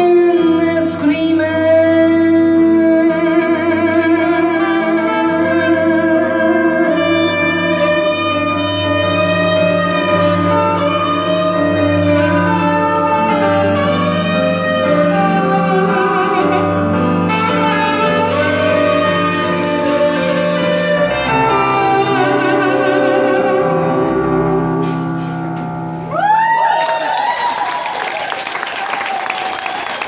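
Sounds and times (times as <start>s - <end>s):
live band instrumental music: 0.0s - 26.1s.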